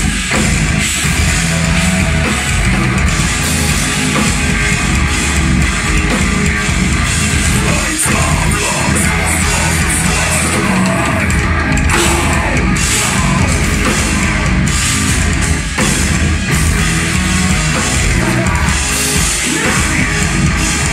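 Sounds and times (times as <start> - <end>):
live heavy metal band: 0.0 - 20.9.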